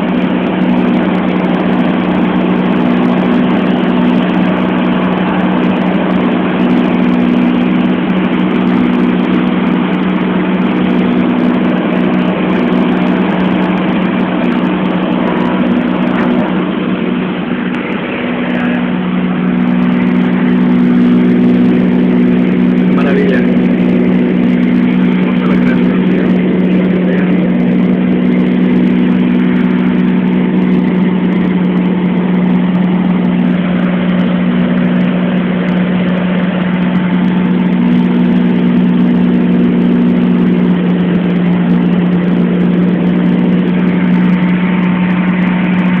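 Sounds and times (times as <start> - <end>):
higher engine tone: 0.0 - 46.0
light aircraft engine drone: 0.0 - 46.0.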